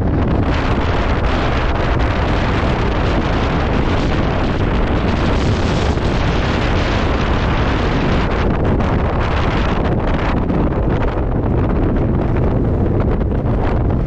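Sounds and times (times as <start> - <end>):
rainstorm rushing: 0.0 - 14.0
wind buffeting microphone: 0.0 - 14.0.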